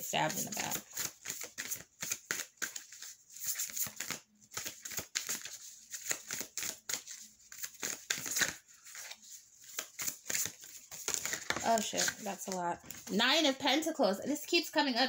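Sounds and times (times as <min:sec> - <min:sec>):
cards being shuffled: 0:00.1 - 0:13.2.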